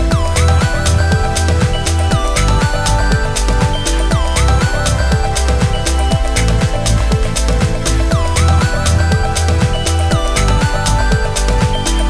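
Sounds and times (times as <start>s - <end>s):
held synth notes: 0.0s - 12.0s
kick drum beat: 0.0s - 12.0s.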